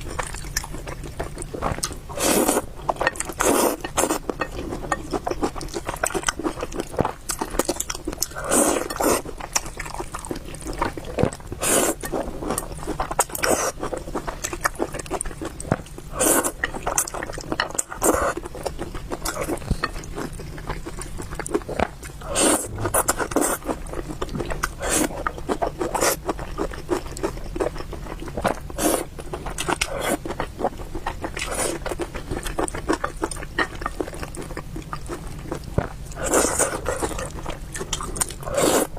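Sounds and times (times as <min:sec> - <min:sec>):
chewing and slurping noodles: 0:00.0 - 0:38.9.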